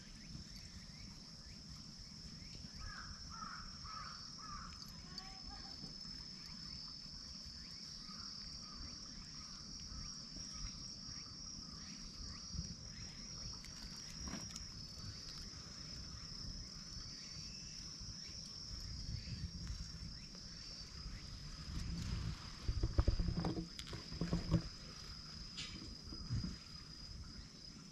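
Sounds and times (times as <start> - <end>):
insects buzzing: 0.0 - 27.9.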